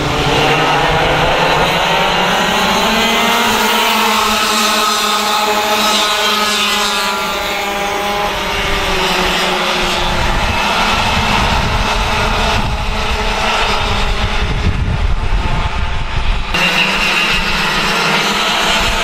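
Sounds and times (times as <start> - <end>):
kart engines running hard: 0.0 - 19.0.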